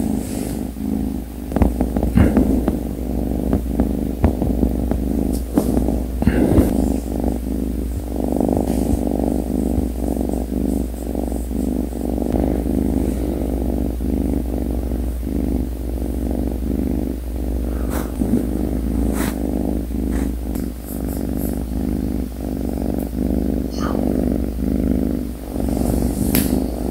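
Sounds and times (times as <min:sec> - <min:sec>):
kitten purring: 0:00.0 - 0:26.9.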